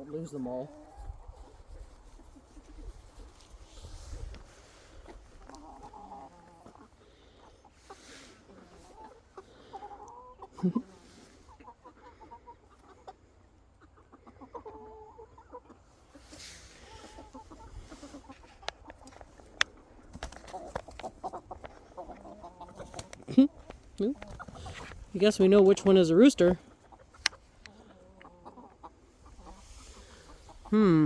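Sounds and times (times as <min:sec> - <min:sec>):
young chickens clucking: 0:00.0 - 0:31.0.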